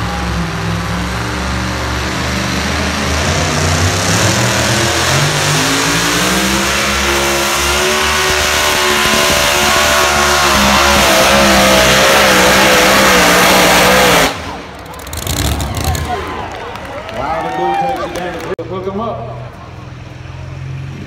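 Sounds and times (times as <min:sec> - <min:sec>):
truck engine at full throttle: 0:00.0 - 0:17.3, 0:18.1 - 0:21.0.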